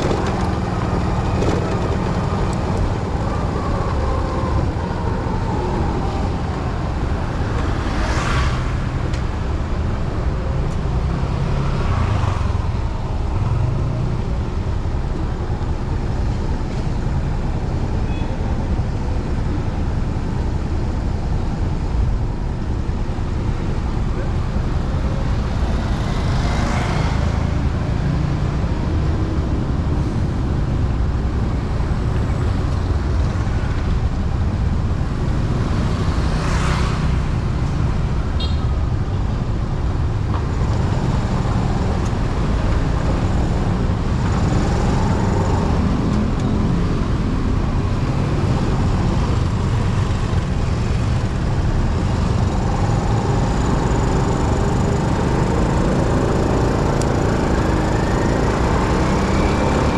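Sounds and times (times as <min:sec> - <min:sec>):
vehicle road noise rumble: 0:00.0 - 0:59.9.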